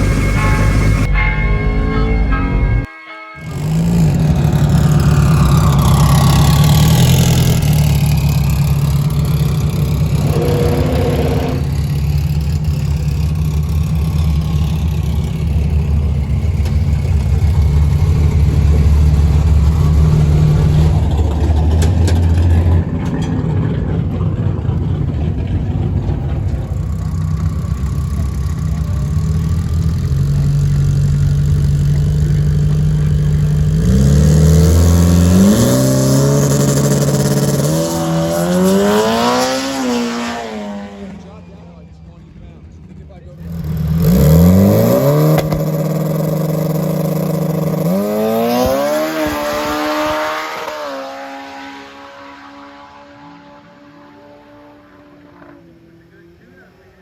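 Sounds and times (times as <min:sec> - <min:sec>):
car engine idling: 0:00.0 - 0:02.9, 0:03.5 - 0:50.5.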